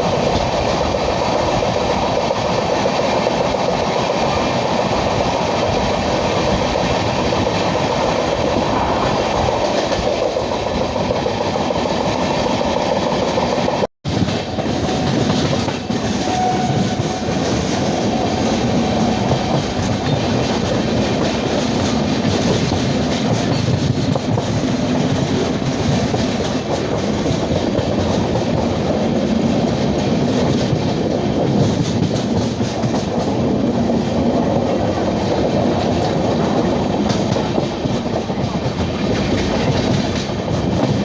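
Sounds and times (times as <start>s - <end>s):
passenger train rumble: 0.0s - 41.0s
wheels clattering on rails: 0.0s - 41.0s.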